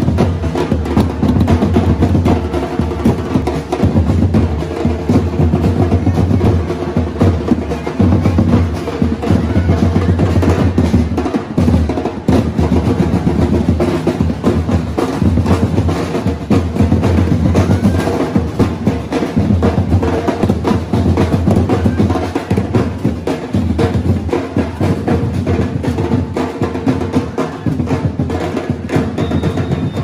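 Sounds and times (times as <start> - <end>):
snare and bass drums playing: 0.0 - 30.0.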